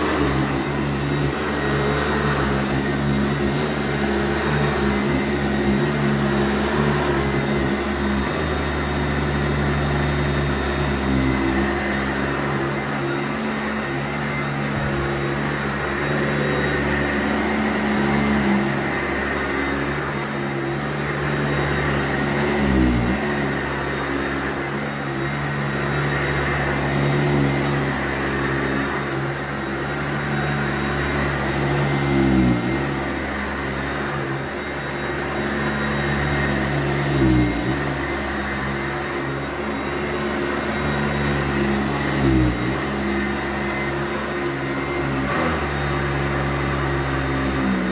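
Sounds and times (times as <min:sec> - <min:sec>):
vacuum cleaner running on carpet: 0:00.0 - 0:47.9.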